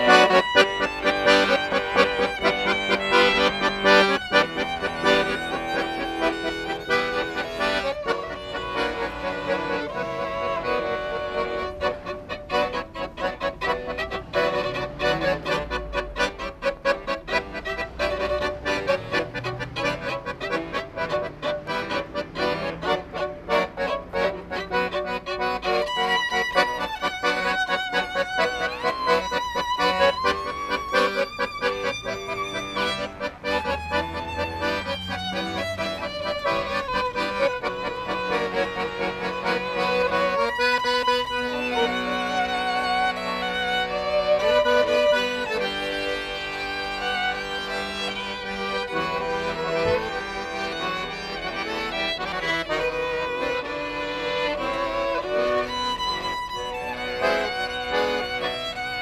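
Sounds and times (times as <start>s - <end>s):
accordion accompaniment: 0.0s - 59.0s
violin melody: 0.0s - 59.0s.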